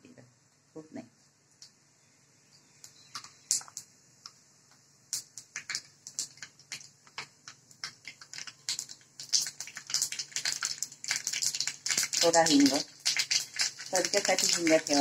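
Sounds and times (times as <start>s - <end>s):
seeds popping in hot oil: 2.6s - 15.0s.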